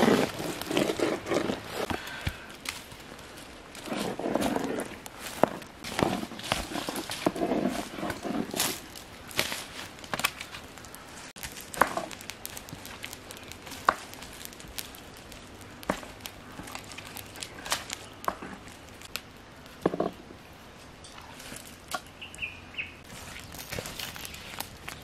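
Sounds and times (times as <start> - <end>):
firewood being handled: 0.0 - 25.0
wood fire crackling: 0.0 - 25.0.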